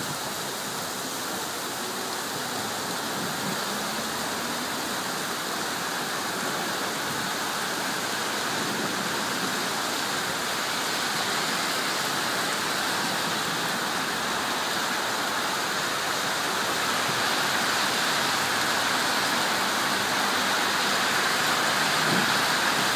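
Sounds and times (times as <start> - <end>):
cars driving on wet road: 0.0 - 22.9
heavy rain on street: 0.0 - 22.9.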